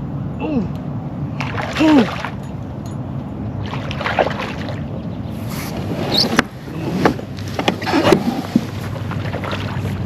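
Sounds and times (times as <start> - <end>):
wind rumble on microphone: 0.0 - 10.0
water sloshing around hull: 1.3 - 10.0.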